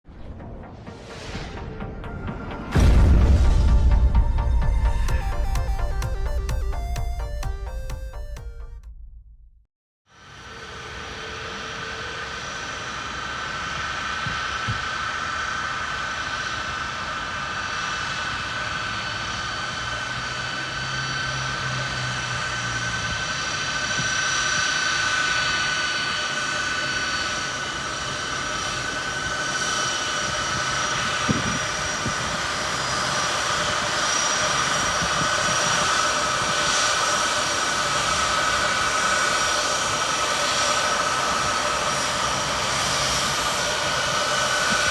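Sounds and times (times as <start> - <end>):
jet engines roaring with whine: 0.1 - 3.1, 10.1 - 44.9.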